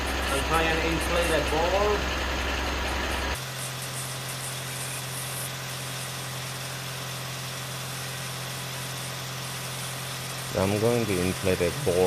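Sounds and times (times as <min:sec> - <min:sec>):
vehicle engine idling: 0:00.0 - 0:03.5, 0:05.6 - 0:12.0.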